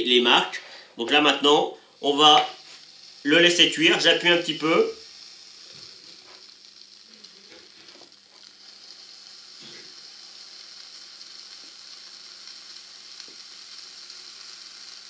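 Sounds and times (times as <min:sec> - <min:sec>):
faint sizzling: 0:00.0 - 0:15.0.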